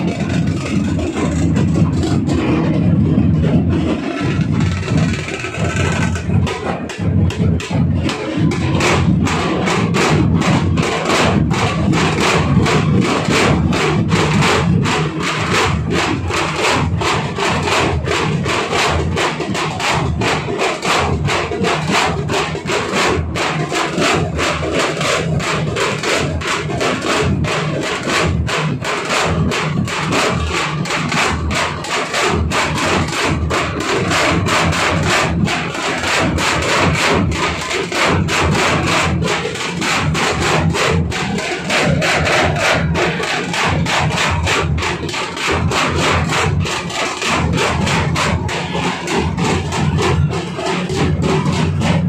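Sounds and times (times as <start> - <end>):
barrel drums beaten fast: 0.0 - 52.0.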